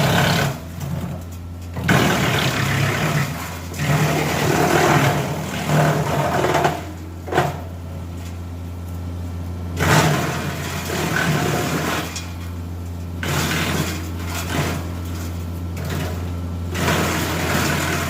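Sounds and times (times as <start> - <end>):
engine humming: 0.0 - 18.0
wood chipper shredding branches: 0.0 - 18.0.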